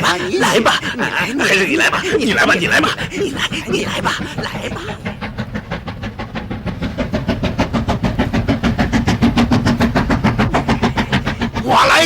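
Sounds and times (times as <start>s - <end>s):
rapid rhythmic clatter: 0.0s - 12.0s.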